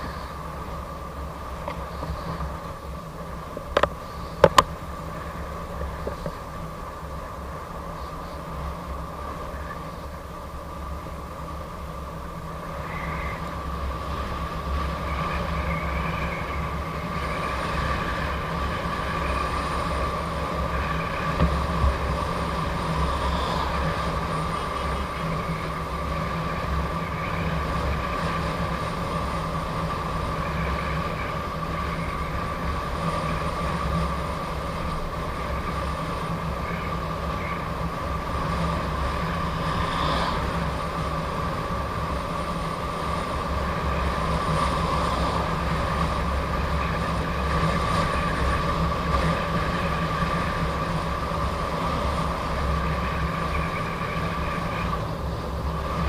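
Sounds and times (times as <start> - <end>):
high whine: 0.0 - 56.0
road noise: 0.0 - 56.0
wind rumble on microphone: 0.0 - 56.0.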